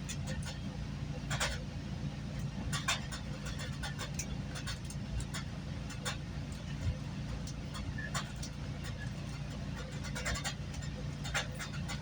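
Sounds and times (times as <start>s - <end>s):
sharp clicks and knocks: 0.0s - 1.7s, 2.4s - 12.0s
train rumbling: 0.0s - 12.0s.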